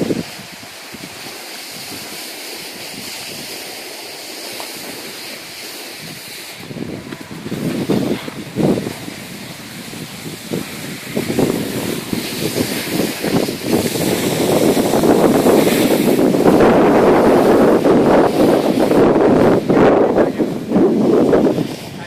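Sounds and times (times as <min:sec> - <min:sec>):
wind rushing on microphone: 0:00.0 - 0:03.9, 0:04.6 - 0:22.0
snow hissing under skis: 0:00.0 - 0:22.0.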